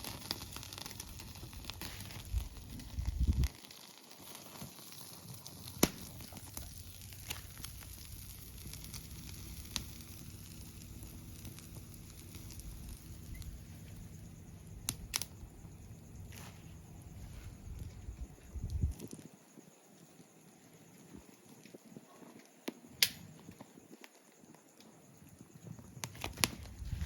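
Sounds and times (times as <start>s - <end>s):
campfire crackling: 0.0s - 27.0s
sharp pops from fire: 0.0s - 27.0s.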